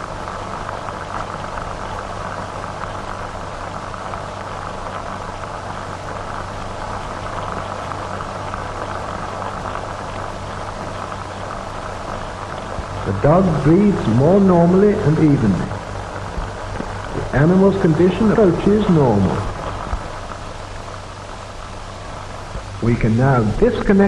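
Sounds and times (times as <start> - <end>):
low steady hum: 0.0 - 24.0
old recording hiss and crackle: 0.0 - 24.0.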